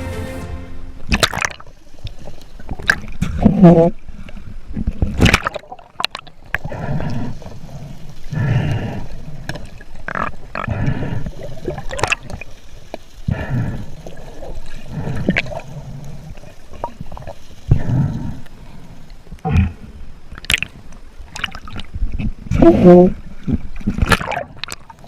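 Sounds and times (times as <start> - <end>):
water sloshing and gurgling: 1.0 - 25.0.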